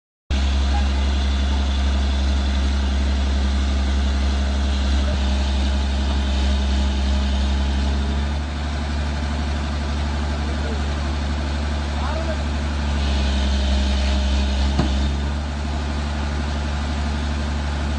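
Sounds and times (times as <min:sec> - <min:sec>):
heavy engine idling: 0:00.3 - 0:17.9.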